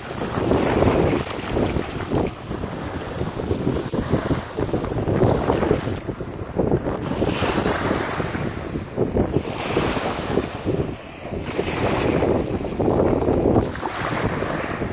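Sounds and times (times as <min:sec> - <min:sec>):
small waves breaking on sand: 0:00.0 - 0:14.9
wind noise on microphone: 0:00.0 - 0:14.9.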